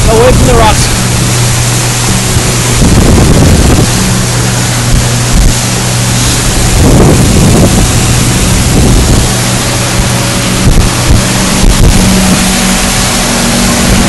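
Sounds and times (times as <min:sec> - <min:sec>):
motorboat engine hum: 0:00.0 - 0:14.0
rushing water: 0:00.0 - 0:14.0
wind buffeting microphone: 0:00.0 - 0:14.0.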